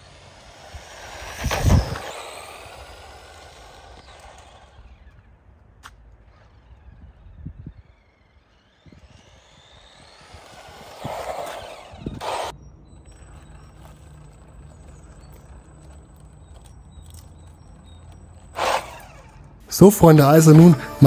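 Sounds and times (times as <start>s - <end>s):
toy car electric motor whining: 0.0s - 19.7s
tyres on ground: 0.0s - 21.0s.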